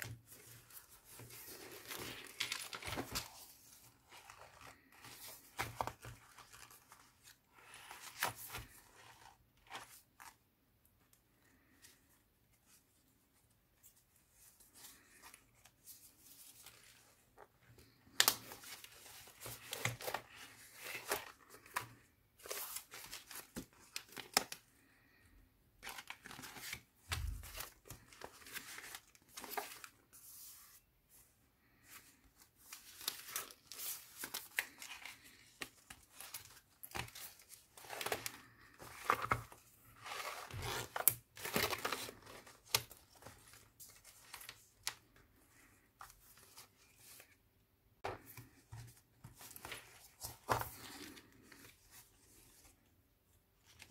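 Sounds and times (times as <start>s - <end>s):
paper pages rustling: 0.0s - 10.4s, 13.8s - 47.4s, 48.0s - 52.9s, 53.6s - 53.9s.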